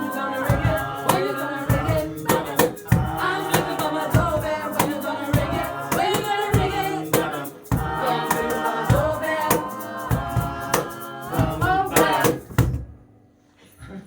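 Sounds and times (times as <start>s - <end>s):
vocal ensemble singing in harmony: 0.0s - 12.9s
vocal percussion beat: 0.0s - 12.9s.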